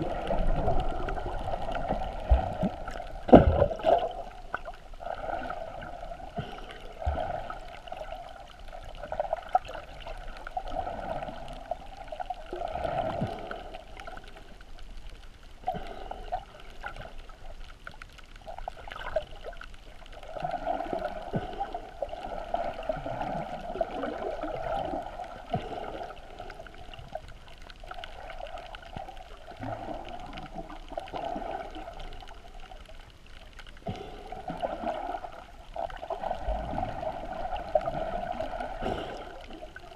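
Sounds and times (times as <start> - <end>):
muffled underwater water sloshing: 0.0 - 39.9.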